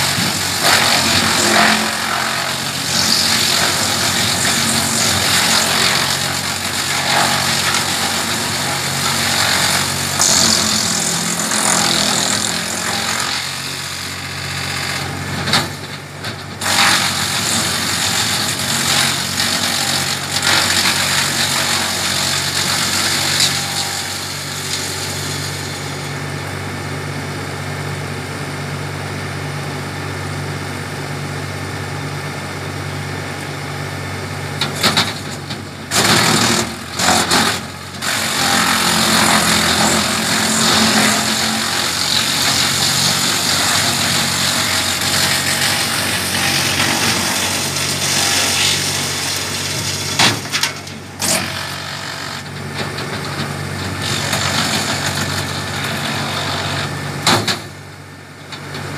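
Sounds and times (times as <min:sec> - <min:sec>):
tractor engine: 0:00.0 - 0:58.9
wood chipper grinding branches: 0:00.0 - 0:58.9.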